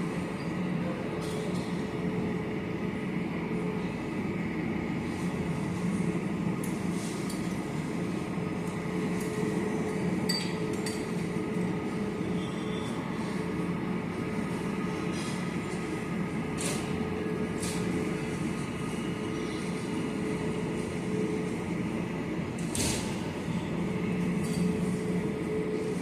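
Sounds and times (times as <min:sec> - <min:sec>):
continuous machine hum: 0:00.0 - 0:26.0.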